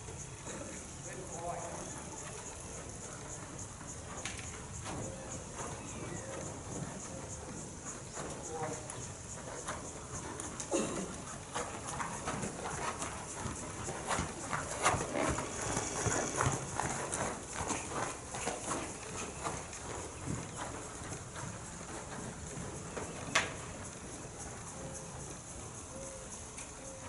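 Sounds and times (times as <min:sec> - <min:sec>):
horse hooves on sand: 0:00.0 - 0:27.0.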